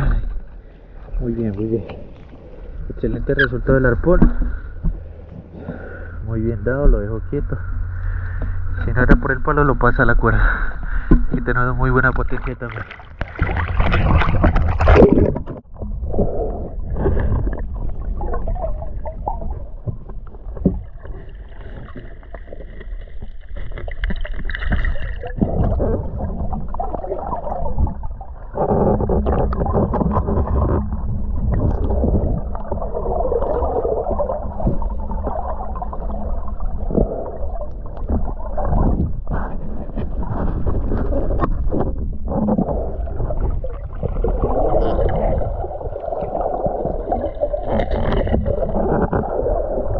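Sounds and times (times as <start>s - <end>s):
muffled water sloshing and gurgling: 0.0s - 49.9s.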